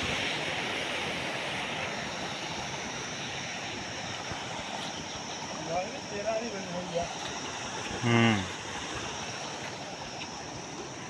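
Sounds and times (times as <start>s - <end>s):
water rushing under bridge: 0.0s - 11.0s.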